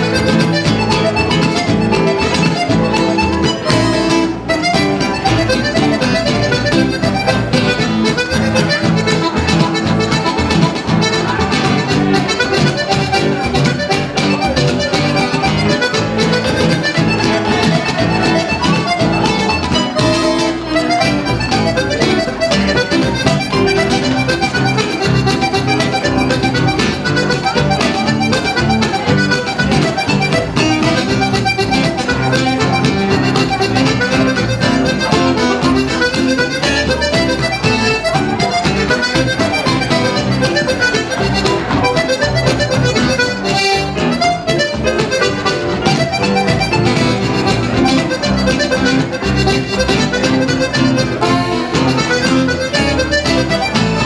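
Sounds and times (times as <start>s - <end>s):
button accordion melody: 0.0s - 54.0s
plucked double bass: 0.0s - 54.0s
strummed acoustic guitar: 0.0s - 54.0s.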